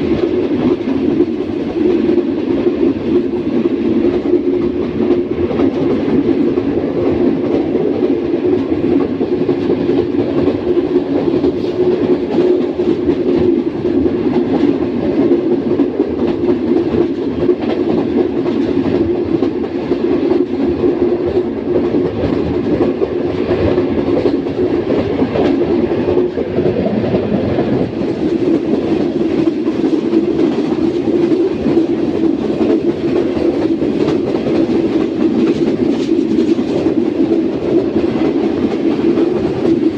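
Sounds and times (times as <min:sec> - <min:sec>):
clickety-clack of wheels: 0:00.0 - 0:39.9
train wheels rumbling on rails: 0:00.0 - 0:39.9.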